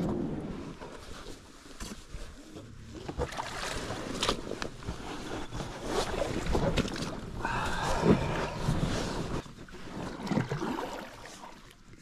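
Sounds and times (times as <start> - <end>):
water splashing and sloshing: 0.5 - 12.0.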